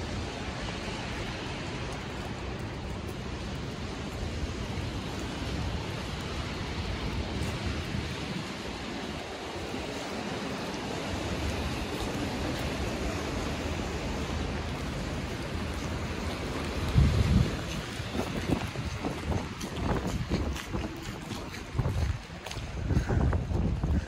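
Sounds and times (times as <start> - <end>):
rushing wind: 0.0 - 24.0.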